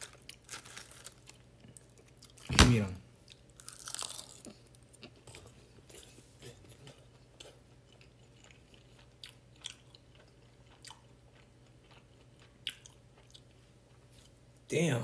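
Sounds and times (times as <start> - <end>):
soft crunches of chewing: 0.0 - 2.5, 3.2 - 14.4
low steady hum: 0.0 - 15.0.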